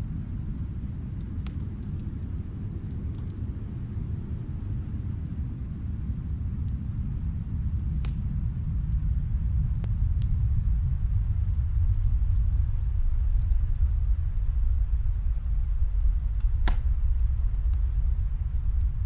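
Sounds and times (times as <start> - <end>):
steady low rumble: 0.0 - 19.0
fireplace crackling: 0.4 - 19.0.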